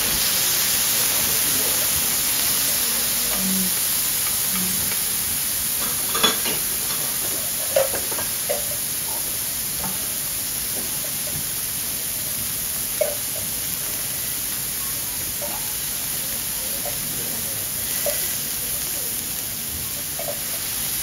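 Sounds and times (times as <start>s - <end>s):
beef sizzling on a griddle: 0.0s - 21.0s.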